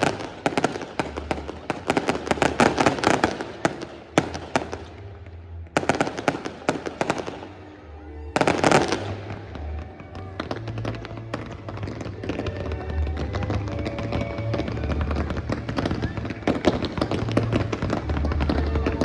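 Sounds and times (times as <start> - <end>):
fireworks bangs and crackling: 0.0 - 19.0
music: 0.0 - 19.0.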